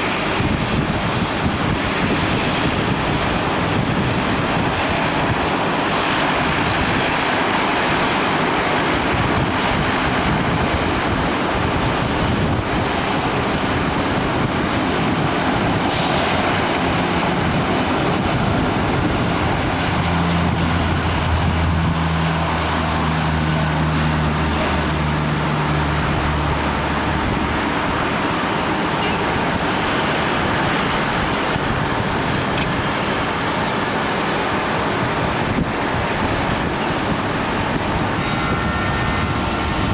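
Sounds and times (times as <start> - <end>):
distant jet aircraft: 0.0 - 39.9
low engine drone: 0.0 - 39.9.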